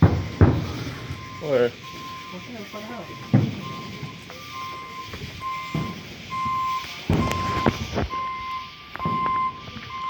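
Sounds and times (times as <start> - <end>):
firework bangs: 0.0 - 10.0
reversing alarm beeping: 0.0 - 10.0.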